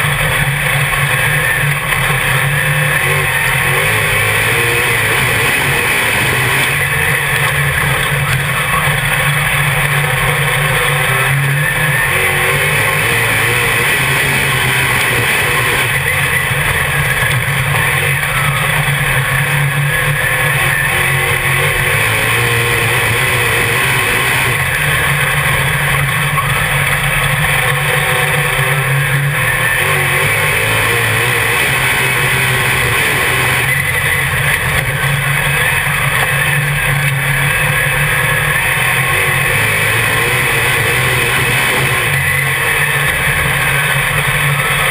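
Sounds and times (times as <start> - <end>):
race car engine running loud: 0.0 - 44.9.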